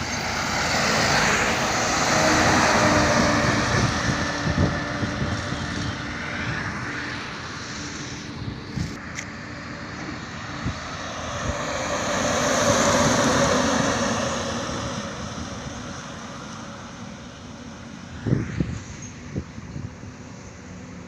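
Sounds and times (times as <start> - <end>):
truck passing: 0.0 - 21.0.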